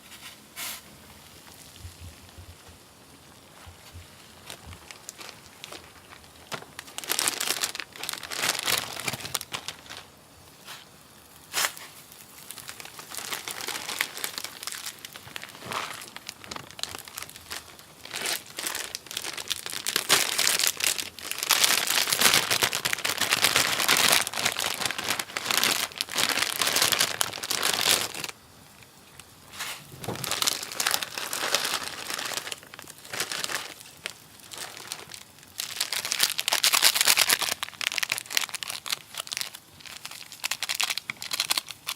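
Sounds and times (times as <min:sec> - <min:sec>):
plastic packaging crinkling: 0:01.4 - 0:41.9.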